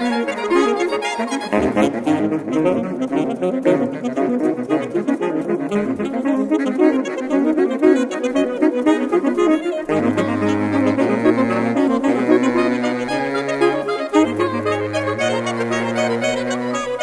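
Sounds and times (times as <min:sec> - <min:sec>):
saxophone quartet playing: 0:00.0 - 0:17.0.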